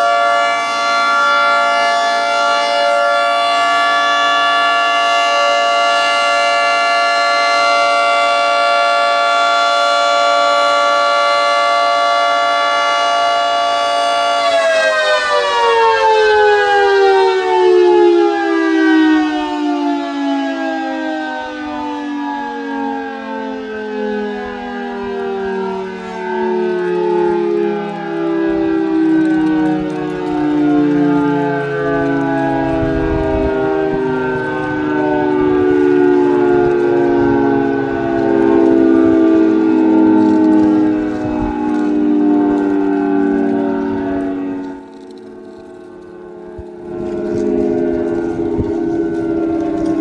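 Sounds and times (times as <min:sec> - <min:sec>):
warning siren winding down: 0:00.0 - 0:50.0.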